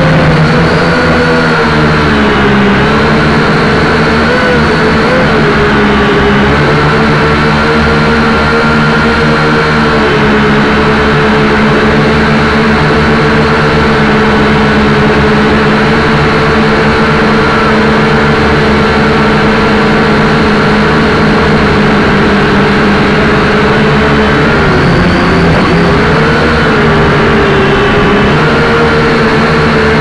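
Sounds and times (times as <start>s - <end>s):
quadcopter motors buzzing: 0.0s - 30.0s.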